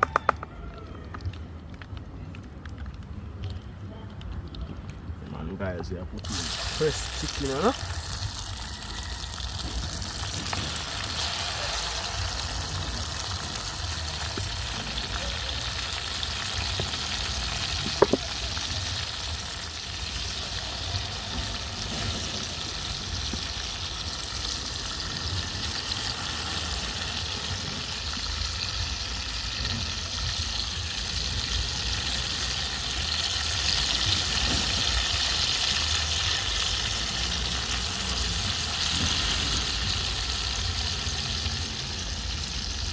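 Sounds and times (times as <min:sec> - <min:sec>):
chicken frying in a pot: 0:06.2 - 0:42.9.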